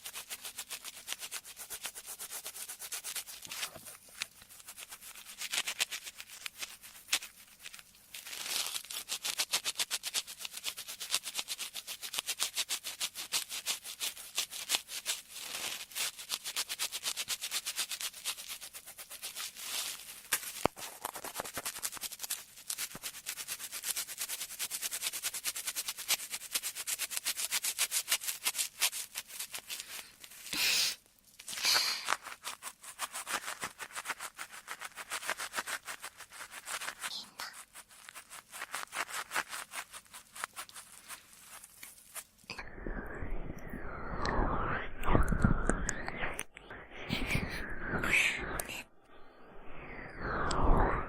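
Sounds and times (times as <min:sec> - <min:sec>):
fine scratching and rubbing: 0:00.0 - 0:30.5, 0:31.4 - 0:42.6.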